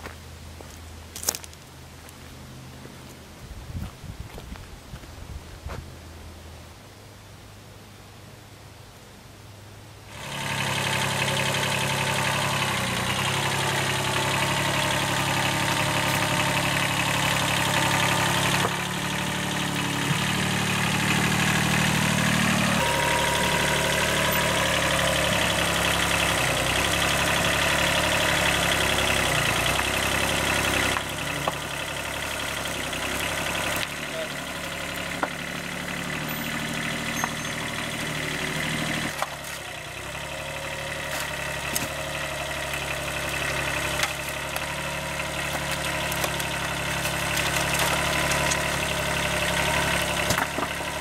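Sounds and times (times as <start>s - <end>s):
loader bucket pushing soil: 10.1s - 51.0s
tractor engine running: 10.1s - 51.0s.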